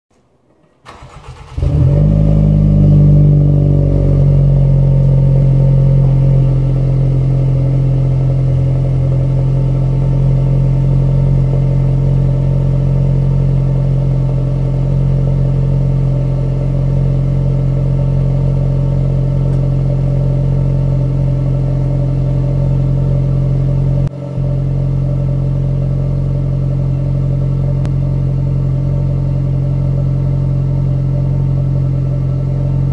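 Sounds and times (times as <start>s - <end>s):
car engine starting and idling: 0.1s - 32.9s.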